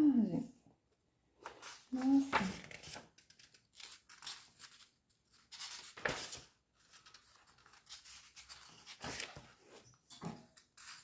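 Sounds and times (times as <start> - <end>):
book pages turning: 1.4 - 9.8, 10.6 - 11.0.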